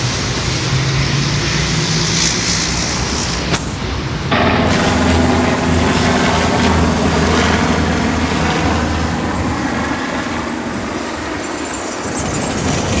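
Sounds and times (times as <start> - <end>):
jet engines of passing airliner: 0.0 - 13.0.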